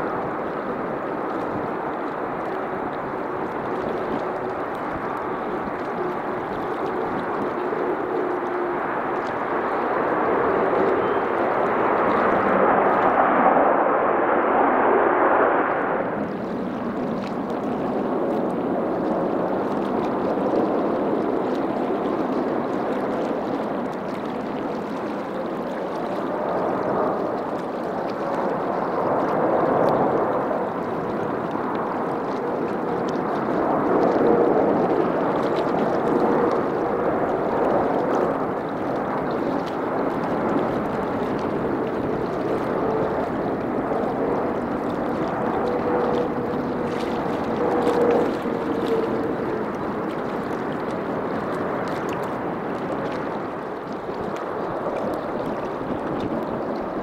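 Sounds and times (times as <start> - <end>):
jet airliner engines landing: 0.0 - 57.0.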